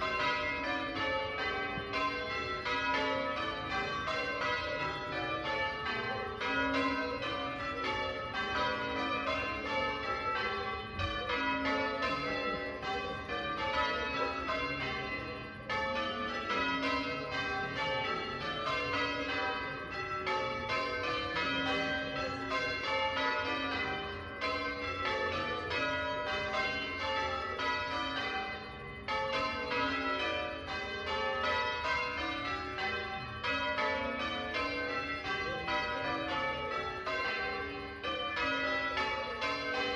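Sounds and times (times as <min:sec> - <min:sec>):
church bells change-ringing: 0:00.0 - 0:39.9.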